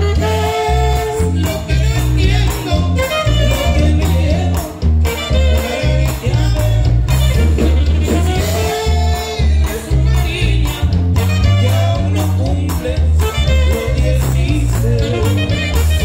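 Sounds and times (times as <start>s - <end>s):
live dance music: 0.0s - 16.0s.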